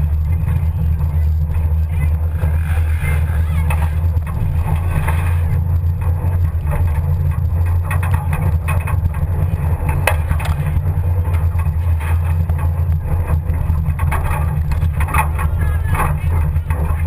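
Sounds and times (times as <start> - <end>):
truck body rattling and knocking: 0.0 - 17.0
truck drivetrain rumble: 0.0 - 17.0.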